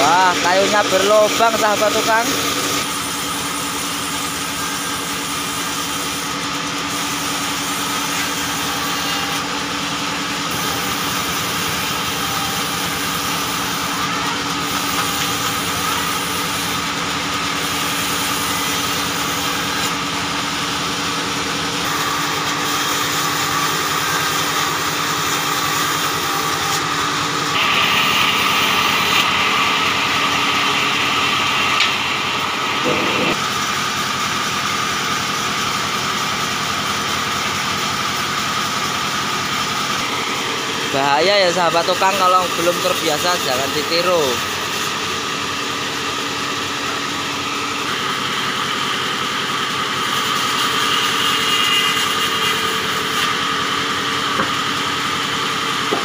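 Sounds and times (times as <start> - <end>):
band saw cutting boards: 0.0 - 56.0.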